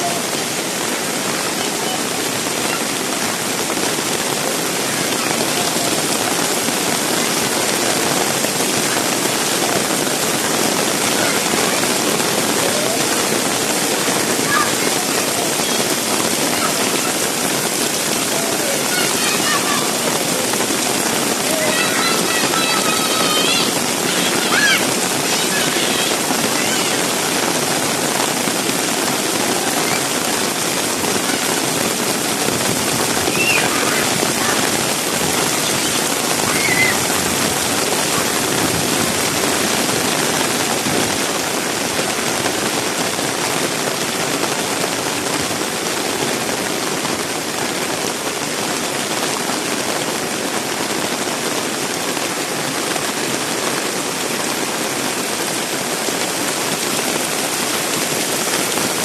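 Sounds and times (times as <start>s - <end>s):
heavy rain splashing: 0.0s - 59.0s.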